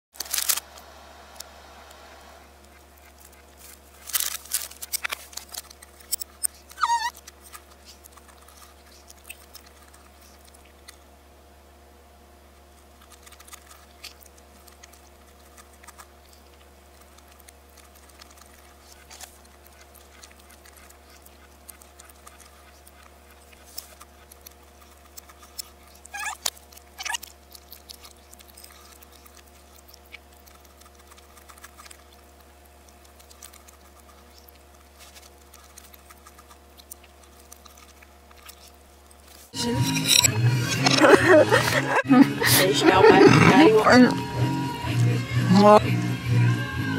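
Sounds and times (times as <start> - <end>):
low electrical hum: 0.2 - 46.9.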